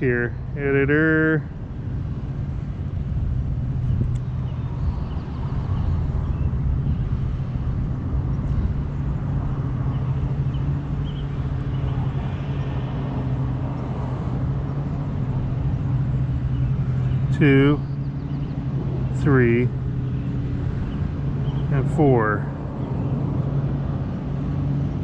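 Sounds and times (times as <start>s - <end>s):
low mechanical hum: 0.0s - 25.0s
outdoor background noise: 0.0s - 25.0s.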